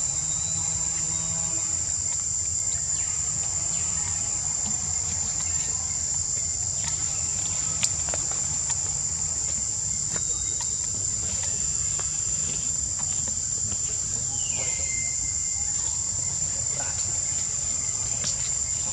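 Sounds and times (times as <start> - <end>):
insects droning: 0.0 - 18.9.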